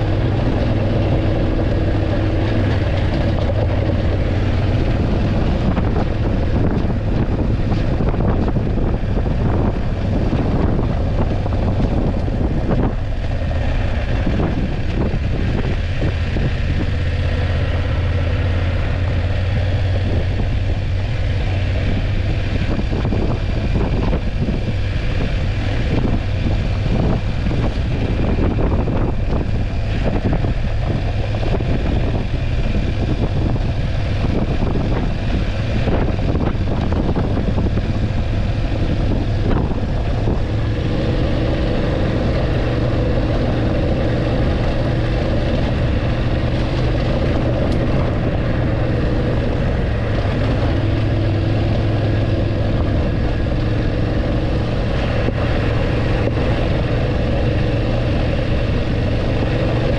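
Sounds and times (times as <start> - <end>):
motorcycle engine running: 0.0 - 59.9
road noise with knocks: 0.0 - 59.9
wind noise: 0.0 - 59.9.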